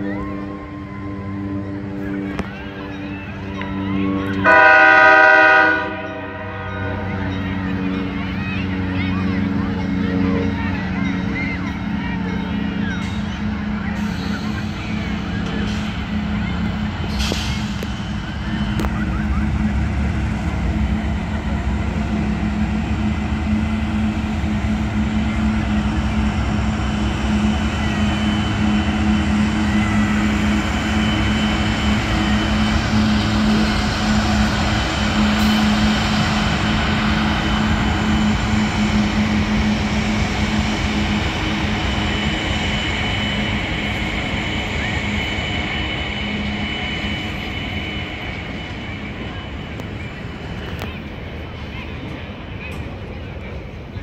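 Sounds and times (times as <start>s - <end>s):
diesel locomotive engine drone: 0.0s - 54.0s
freight train rolling on rails: 0.0s - 54.0s.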